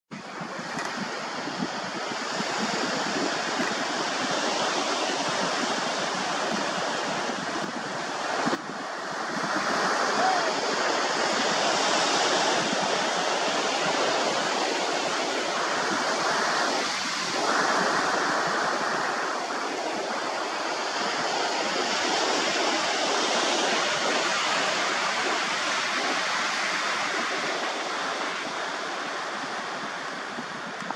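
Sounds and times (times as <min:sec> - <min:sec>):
sea surf washing onto beach: 0:00.1 - 0:30.9.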